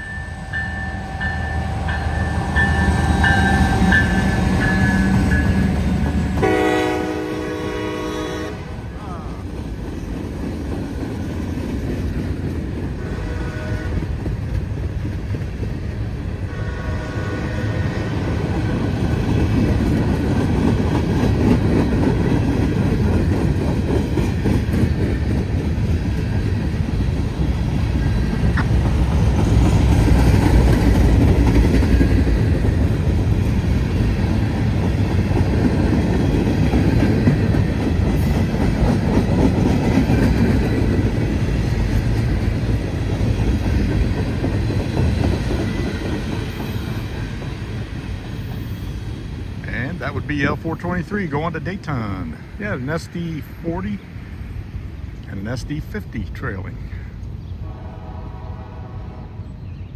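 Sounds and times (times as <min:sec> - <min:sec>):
train wheels clattering on rails: 0:00.0 - 0:08.0, 0:09.4 - 0:49.7
diesel locomotive rumble: 0:00.0 - 0:59.2.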